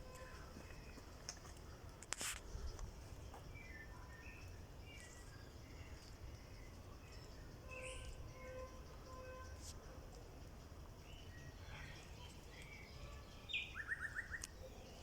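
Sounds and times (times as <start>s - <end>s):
songbird chirps: 0.0s - 15.0s.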